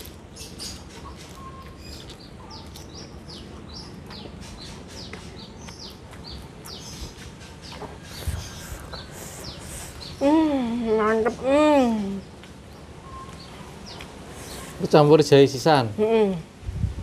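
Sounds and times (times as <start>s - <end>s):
birds chirping: 0.0s - 16.2s.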